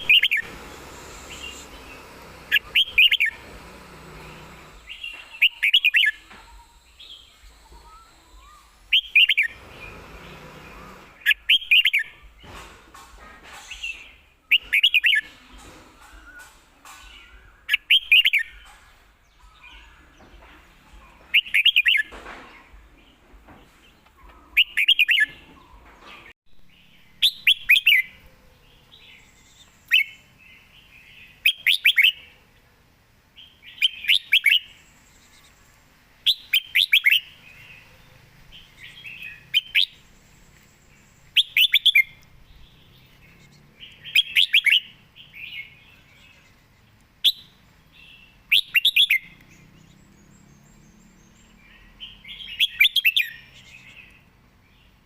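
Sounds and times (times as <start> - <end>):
bird singing warbled phrases: 0.0 - 12.7, 13.6 - 32.7, 33.4 - 55.0.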